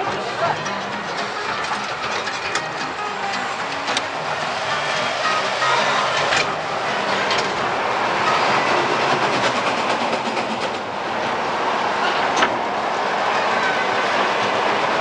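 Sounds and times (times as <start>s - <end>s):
ride train rumbling on track: 0.0s - 15.0s
wheel clacks: 0.0s - 15.0s.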